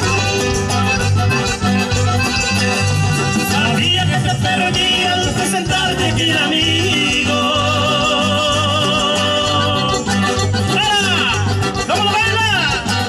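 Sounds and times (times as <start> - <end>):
live band playing: 0.0 - 13.0
repeating bass line: 0.0 - 13.0.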